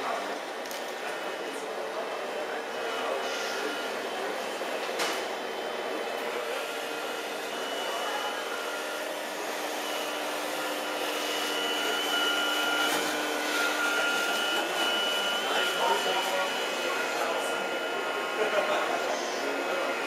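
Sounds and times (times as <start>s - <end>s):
small electric motors whining: 0.6s - 20.0s.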